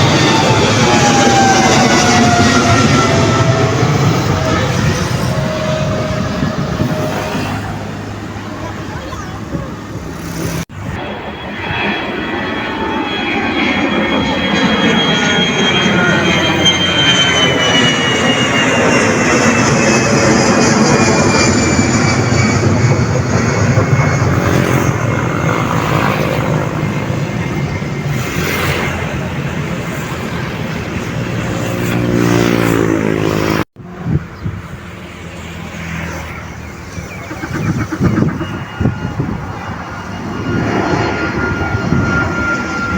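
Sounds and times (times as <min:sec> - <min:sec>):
airliner engines passing: 0:00.0 - 0:42.9.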